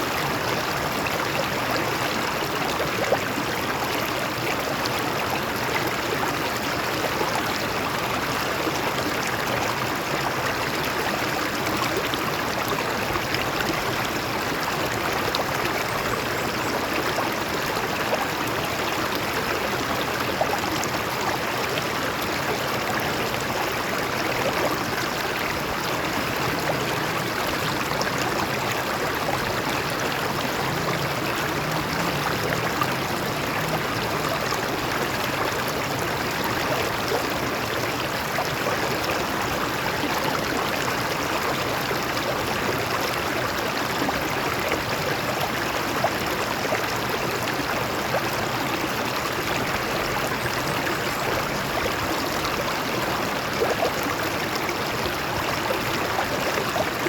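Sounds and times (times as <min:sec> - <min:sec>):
stream water flowing over rocks: 0:00.0 - 0:57.0.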